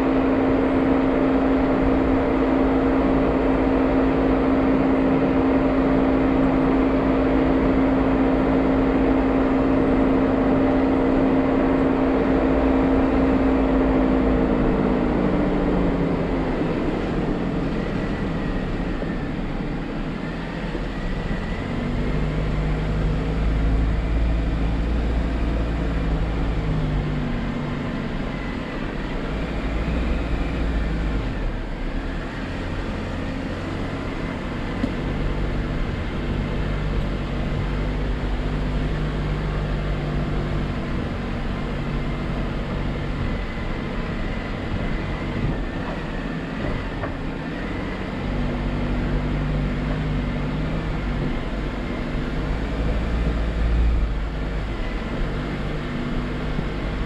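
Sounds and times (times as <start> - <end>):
low engine rumble: 0.0 - 57.0
vehicle engine and drivetrain hum: 0.0 - 57.0.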